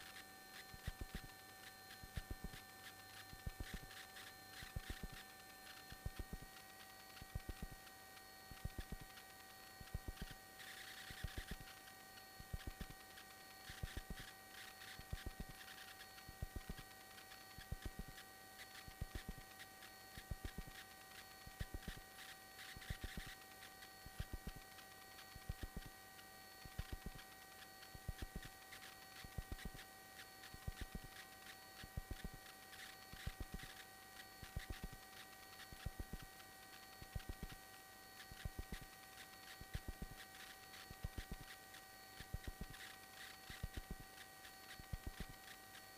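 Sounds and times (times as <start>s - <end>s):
faint electrical hum: 0.0s - 45.9s.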